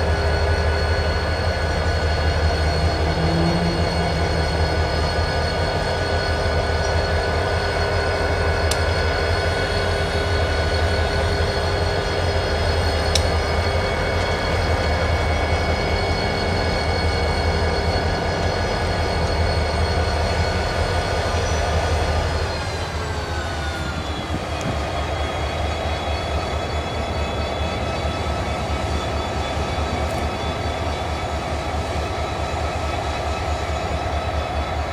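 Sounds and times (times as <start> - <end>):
freight train rumbling: 0.0 - 34.9
high many-toned train whine: 0.0 - 34.9.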